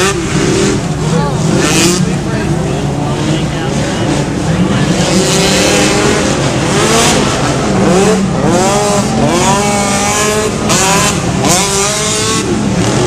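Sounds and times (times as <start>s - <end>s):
engine revving hard: 0.0s - 13.0s.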